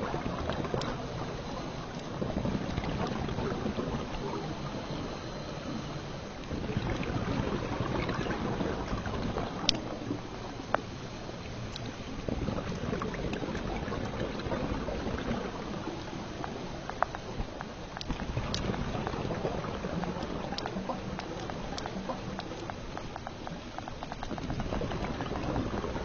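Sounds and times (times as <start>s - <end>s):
underwater rushing noise: 0.0s - 26.0s
faint ticks: 0.2s - 26.0s.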